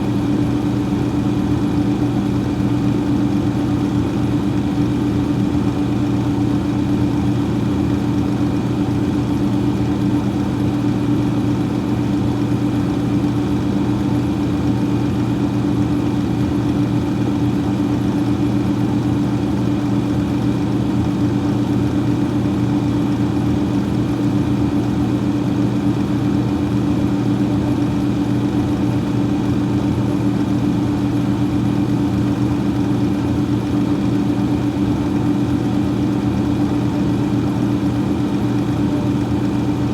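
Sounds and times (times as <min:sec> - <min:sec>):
freezer fan humming: 0:00.0 - 0:39.9.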